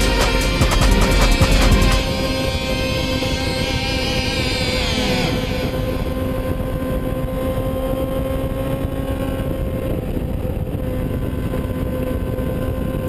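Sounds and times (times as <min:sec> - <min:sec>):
motorcycle engine cruising: 0:00.0 - 0:13.0
wind and road noise: 0:02.0 - 0:13.0.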